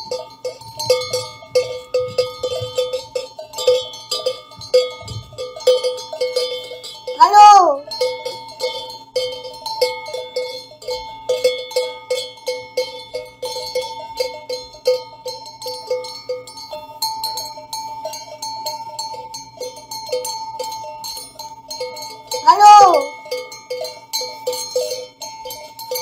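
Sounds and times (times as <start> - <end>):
sheep bells clanking: 0.0 - 26.0.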